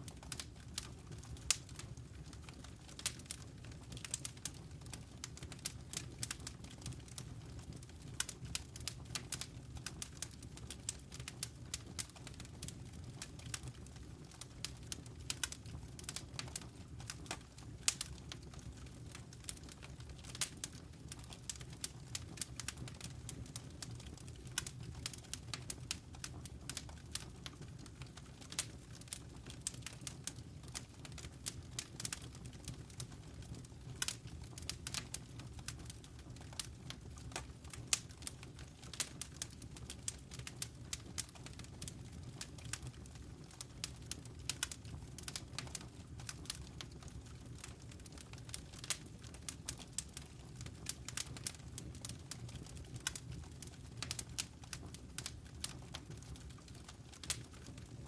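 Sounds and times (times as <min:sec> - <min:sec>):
low rumble of burning: 0:00.0 - 0:58.0
wood fire crackling: 0:00.0 - 0:58.0.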